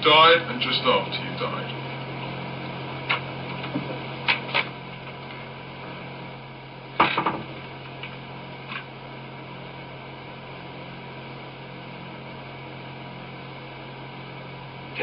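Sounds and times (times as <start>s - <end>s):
tape hiss and hum: 0.0s - 15.0s.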